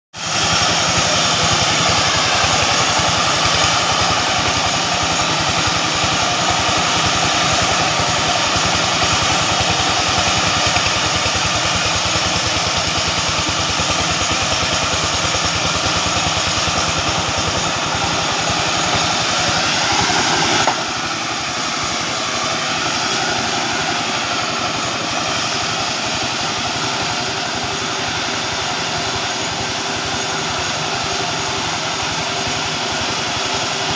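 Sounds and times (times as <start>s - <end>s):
sawmill saw running: 0.2s - 33.9s.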